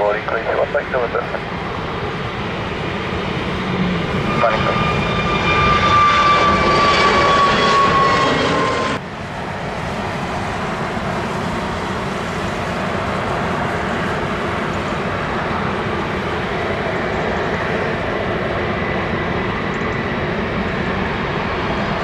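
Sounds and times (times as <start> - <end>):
jet airliner rumble: 0.0 - 22.0
jet engine roar with whine: 0.0 - 22.0.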